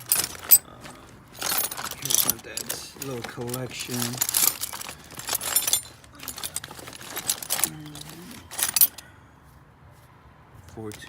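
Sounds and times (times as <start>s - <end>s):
metal sockets clinking: 0.0s - 9.0s.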